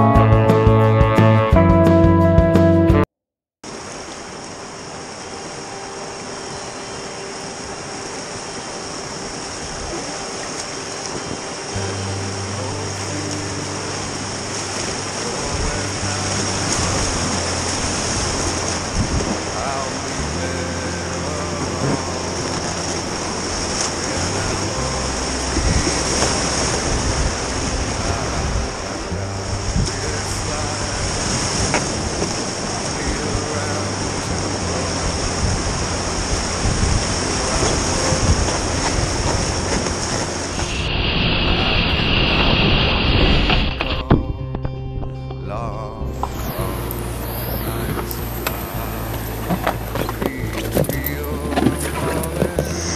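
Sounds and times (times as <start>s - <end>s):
whitewater rapids rushing: 3.6s - 44.2s, 46.2s - 52.9s
low steady tone: 4.6s - 42.6s, 43.2s - 52.9s.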